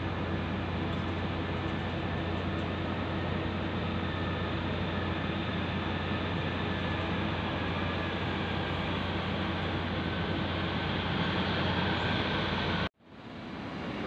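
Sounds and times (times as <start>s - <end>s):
constant low hum: 0.0s - 14.0s
large truck running: 0.0s - 14.0s
road and engine noise: 0.0s - 14.0s.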